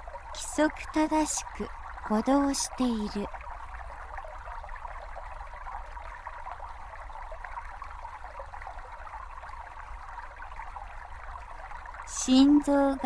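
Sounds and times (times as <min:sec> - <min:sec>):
small stream babbling: 0:00.0 - 0:13.0.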